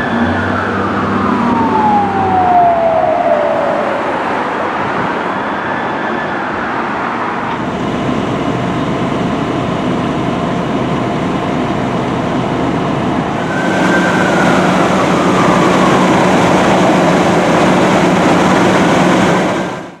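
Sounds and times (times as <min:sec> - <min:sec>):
fire engine siren wailing: 0:00.0 - 0:20.0
traffic: 0:00.0 - 0:20.0
truck engine: 0:00.0 - 0:20.0.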